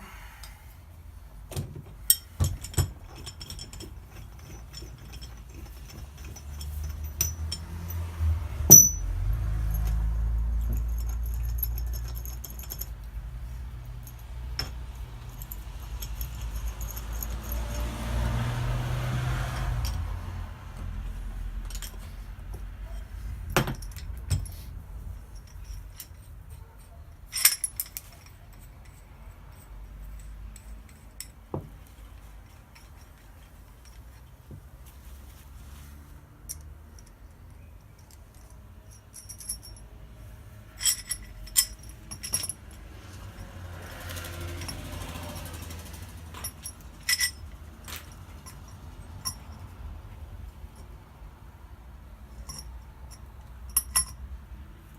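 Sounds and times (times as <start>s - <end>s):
metal tools clinking: 1.5s - 34.3s, 36.4s - 51.0s, 52.3s - 54.3s.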